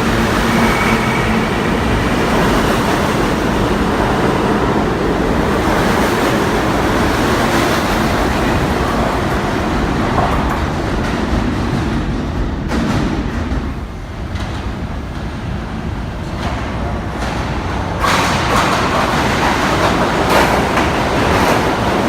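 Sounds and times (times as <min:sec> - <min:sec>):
subway train wheels on rails: 0:00.0 - 0:22.0.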